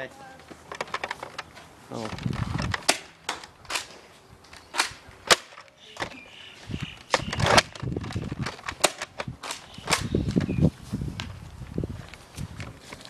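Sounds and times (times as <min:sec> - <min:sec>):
handling noise: 0:00.3 - 0:13.0.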